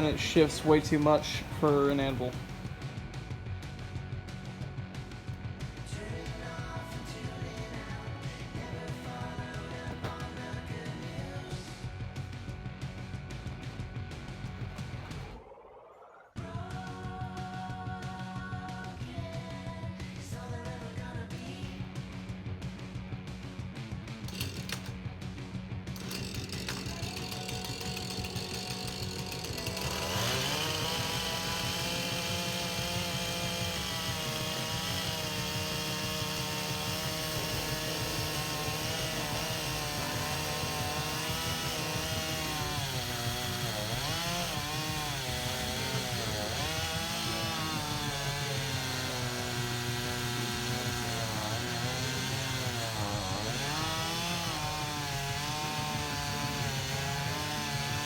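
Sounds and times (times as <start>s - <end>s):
chainsaw cutting wood: 0.0s - 15.4s, 23.9s - 58.0s.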